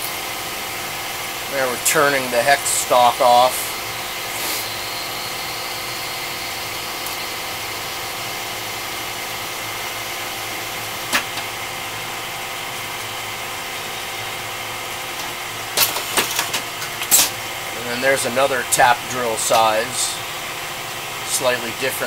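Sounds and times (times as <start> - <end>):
lathe machine hum: 0.0 - 22.0.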